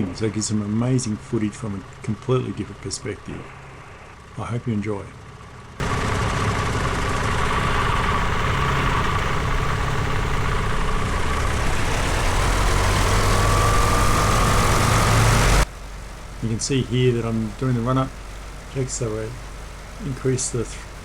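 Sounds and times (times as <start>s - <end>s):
light aircraft engine and propeller droning: 0.0s - 21.0s.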